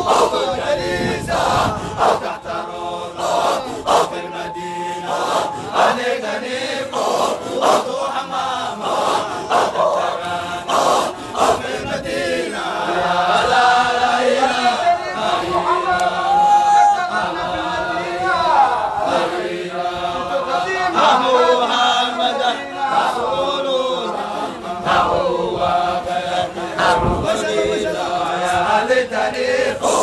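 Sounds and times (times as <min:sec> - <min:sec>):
group of voices chanting: 0:00.0 - 0:30.0.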